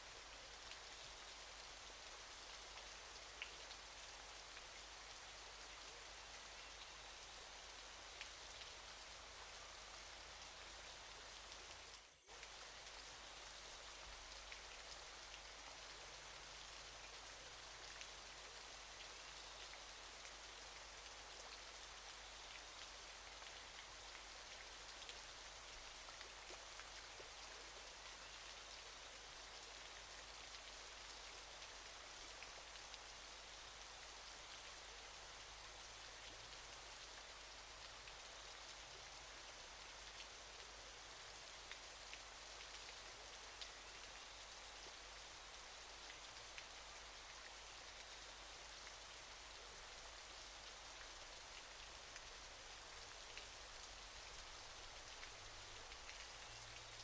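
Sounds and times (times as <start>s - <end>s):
faint falling water rush: 0.0s - 57.0s.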